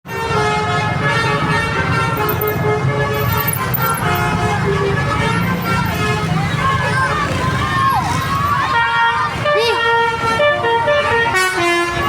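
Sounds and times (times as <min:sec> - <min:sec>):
bus musical horn: 0:00.1 - 0:12.0.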